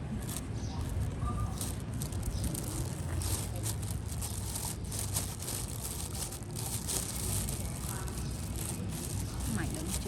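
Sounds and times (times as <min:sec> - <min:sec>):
crinkling and rustling: 0:00.0 - 0:10.0.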